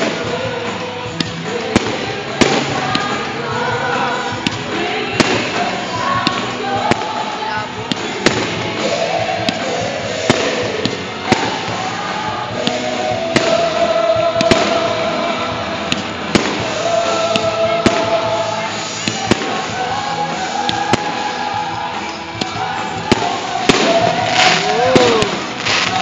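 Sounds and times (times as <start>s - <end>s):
background music: 0.0s - 26.0s
fireworks bangs and pops: 0.0s - 26.0s.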